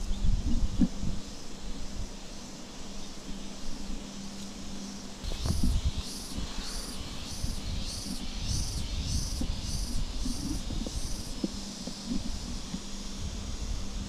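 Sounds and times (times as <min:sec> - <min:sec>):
insect pulsing high call: 0:00.0 - 0:14.0
steady low hum: 0:00.0 - 0:14.0.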